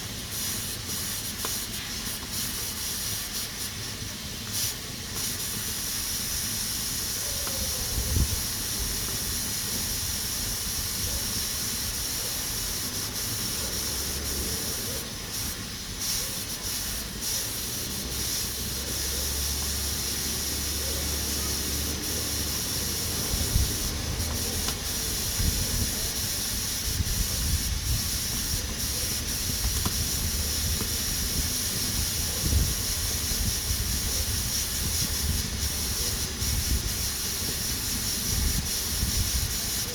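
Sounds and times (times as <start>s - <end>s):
pressure cooker hissing: 0.0s - 39.9s.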